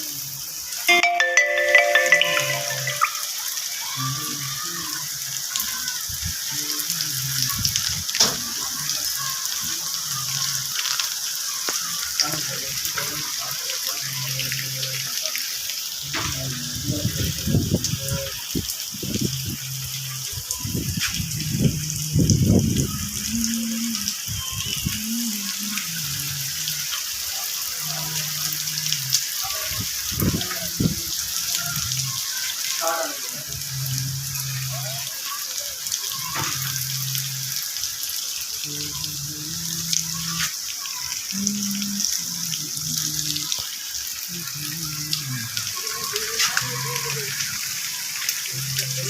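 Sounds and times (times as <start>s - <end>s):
steady rain hiss: 0.0s - 49.0s.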